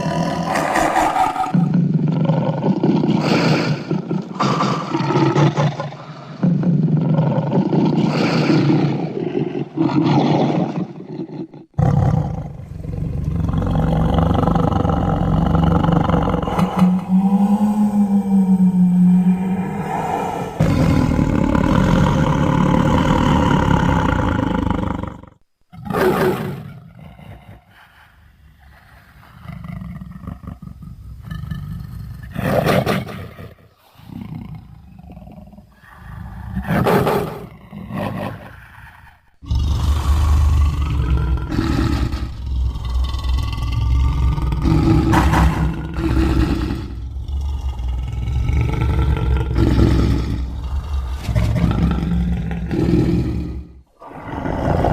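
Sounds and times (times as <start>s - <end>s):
dinosaur roaring: 0.0s - 27.8s, 34.1s - 54.9s.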